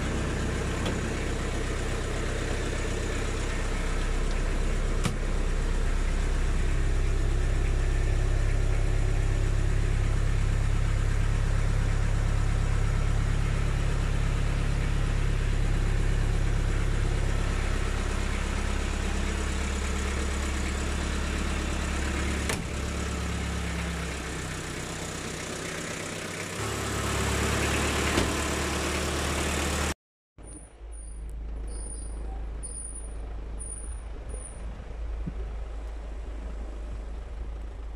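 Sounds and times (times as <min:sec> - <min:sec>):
diesel engine idling: 0:00.0 - 0:30.0, 0:30.8 - 0:37.9.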